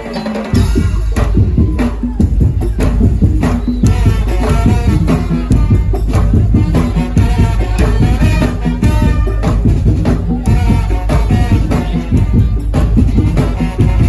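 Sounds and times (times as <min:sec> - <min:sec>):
drums and slit drums beating: 0:00.0 - 0:14.0.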